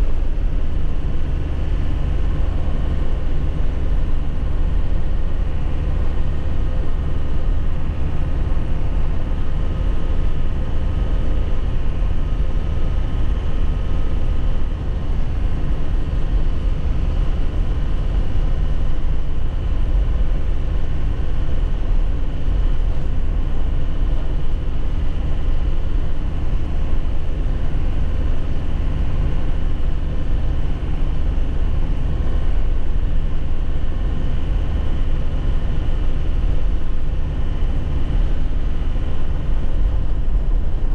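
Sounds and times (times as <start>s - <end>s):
road and tyre noise: 0.0s - 40.9s
truck engine running: 0.0s - 40.9s.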